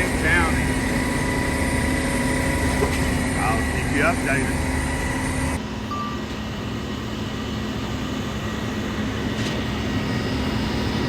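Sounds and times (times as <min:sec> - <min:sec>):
heavy diesel engines droning: 0:00.0 - 0:11.0
low hum: 0:00.0 - 0:11.0.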